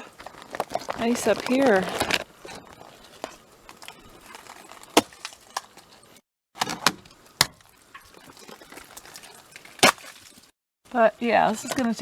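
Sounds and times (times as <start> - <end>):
ice cracking: 0.0 - 10.5.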